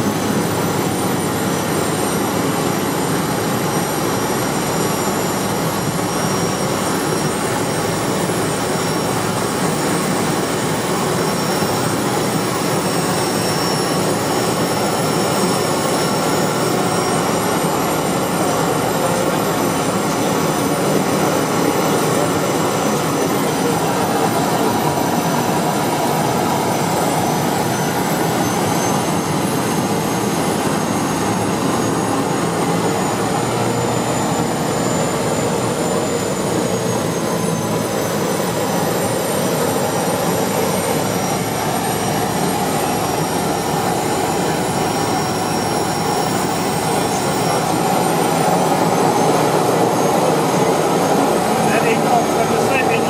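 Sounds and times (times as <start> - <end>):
high turbine whine: 0.0 - 53.0
propeller engine drone: 0.0 - 53.0.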